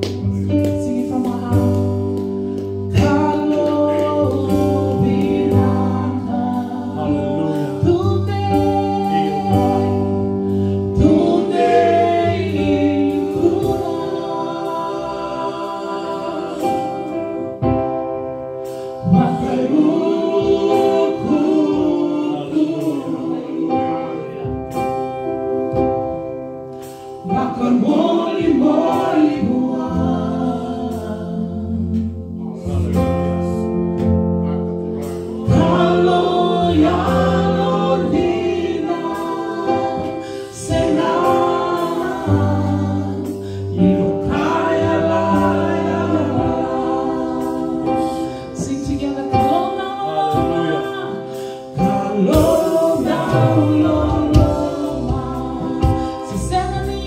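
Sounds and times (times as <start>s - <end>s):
woman singing a hymn: 0.0s - 17.8s, 19.0s - 24.6s, 27.2s - 32.3s, 35.3s - 57.0s
electric bass: 0.0s - 27.8s, 28.4s - 57.0s
drum kit: 0.0s - 57.0s
electronic keyboard: 0.0s - 57.0s.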